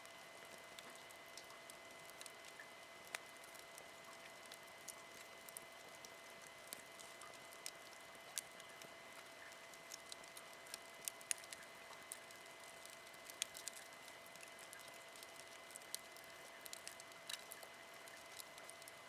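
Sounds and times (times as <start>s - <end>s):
fire pops and snaps: 0.5s - 19.0s
campfire crackling: 1.4s - 19.0s.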